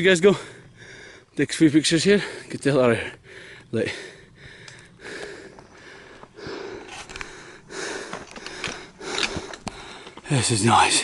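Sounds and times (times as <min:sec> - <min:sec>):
person breathing heavily: 0:00.3 - 0:01.4, 0:02.1 - 0:10.3.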